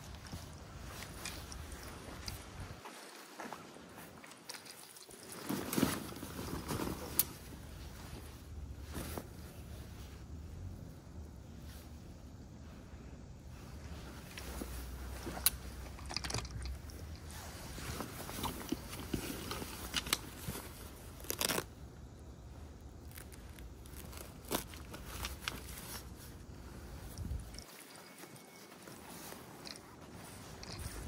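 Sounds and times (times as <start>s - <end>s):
canvas sack rustling and scraping: 0.0s - 10.4s, 13.5s - 21.8s, 22.4s - 31.0s.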